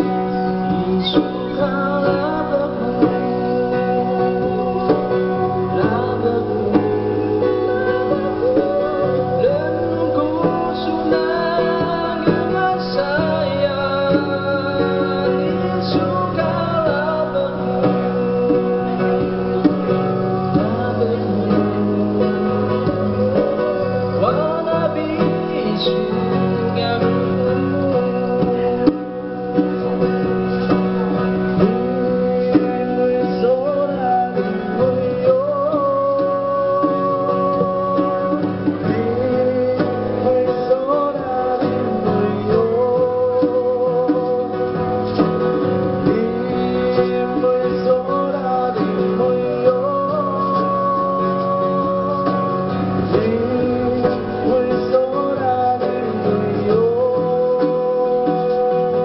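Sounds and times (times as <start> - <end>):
acoustic guitar accompaniment: 0.0 - 59.0.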